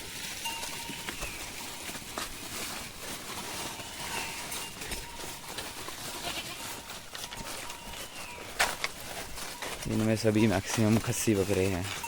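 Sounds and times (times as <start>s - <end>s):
goat hooves clicking on ground: 0.0s - 12.0s.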